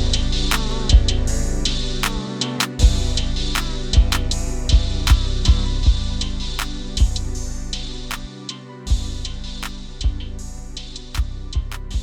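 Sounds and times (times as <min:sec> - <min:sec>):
sustained bass line: 0:00.0 - 0:02.2, 0:02.8 - 0:08.2, 0:08.9 - 0:12.0
drums and cymbals: 0:00.0 - 0:08.3, 0:08.9 - 0:10.4, 0:11.2 - 0:12.0.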